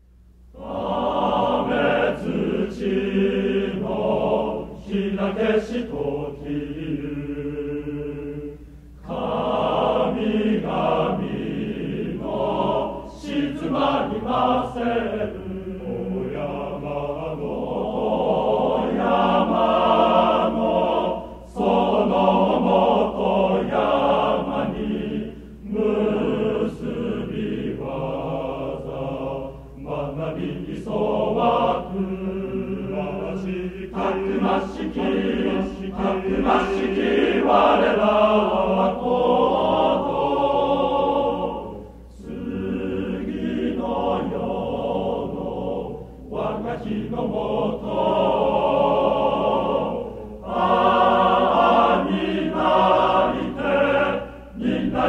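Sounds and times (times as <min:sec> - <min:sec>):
steady low hum: 0:00.0 - 0:55.0
men's chorus singing: 0:00.6 - 0:55.0.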